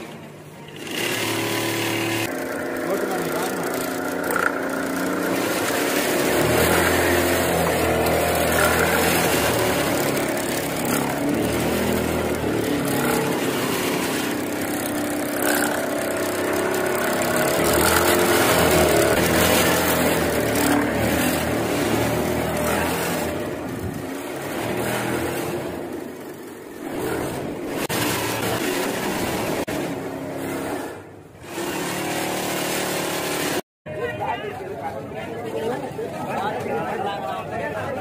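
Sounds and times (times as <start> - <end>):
sewing machine motor hum: 0.6 - 33.6.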